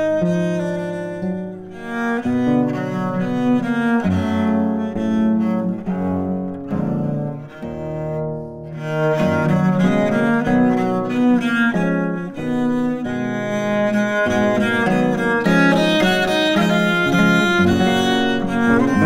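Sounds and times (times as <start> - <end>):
viola da gamba bowed notes: 0.0 - 19.0.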